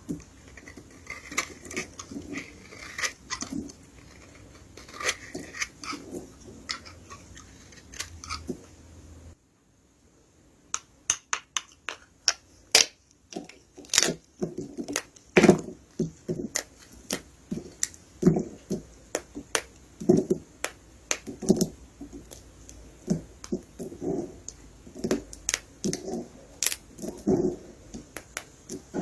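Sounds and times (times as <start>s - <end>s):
dry soap cracking and crunching: 0.1s - 8.5s, 11.9s - 15.8s, 16.4s - 28.9s.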